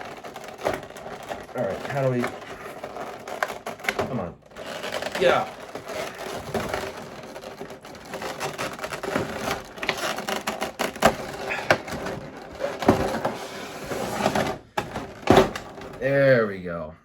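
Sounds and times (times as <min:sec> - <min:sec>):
packaging crackling and creaking: 0:00.0 - 0:16.3.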